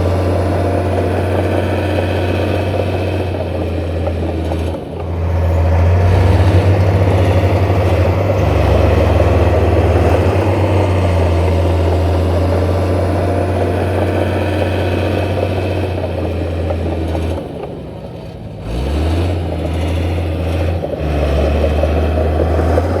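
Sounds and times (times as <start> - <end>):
heavy machinery diesel engine: 0.0 - 23.0.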